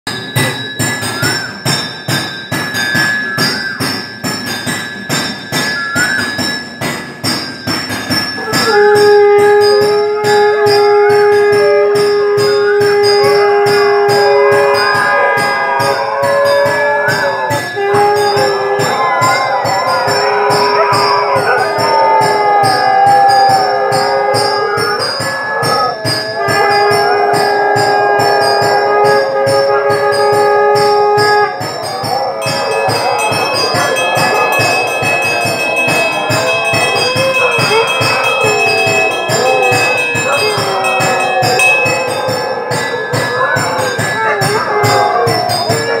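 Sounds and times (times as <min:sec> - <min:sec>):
hand bells ringing: 0:00.1 - 0:46.0
conch shell blown: 0:05.2 - 0:06.7, 0:08.3 - 0:46.0
dog howling: 0:08.3 - 0:46.0.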